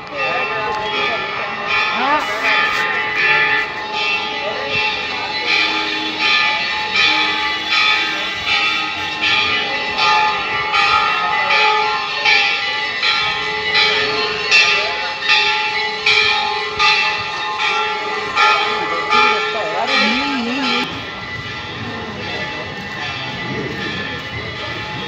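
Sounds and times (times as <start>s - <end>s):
temple bell ringing: 0.0s - 25.0s.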